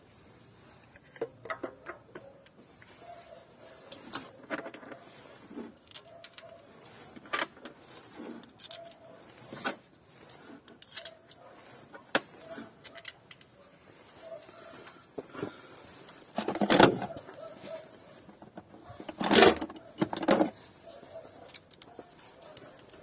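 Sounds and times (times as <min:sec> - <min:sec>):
clicks and knocks of tools: 0:00.8 - 0:03.0, 0:03.7 - 0:13.6, 0:16.0 - 0:17.6, 0:18.2 - 0:23.0
parts clattering: 0:03.7 - 0:23.0.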